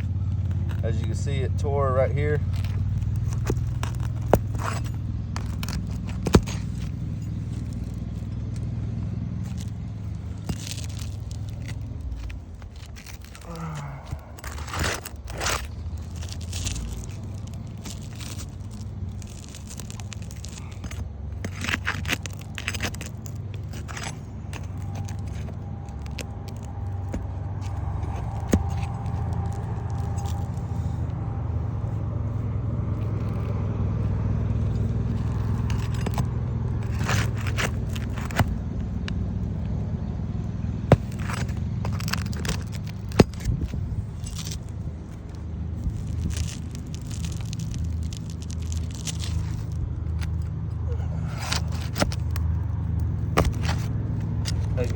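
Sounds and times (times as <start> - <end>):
low steady rumble: 0.0 - 54.9
tool scraping roof shingles: 2.3 - 8.7, 9.3 - 31.0, 34.6 - 39.1, 40.9 - 54.9.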